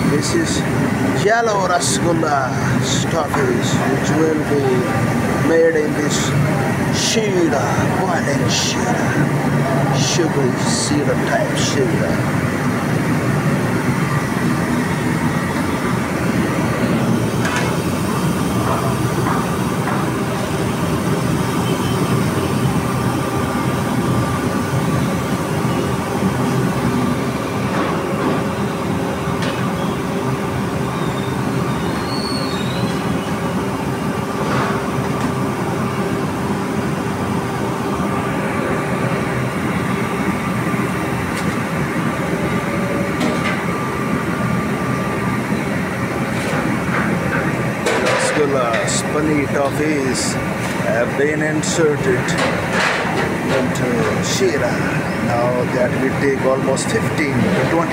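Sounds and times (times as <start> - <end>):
burners roaring: 0.0 - 29.6, 34.3 - 57.9.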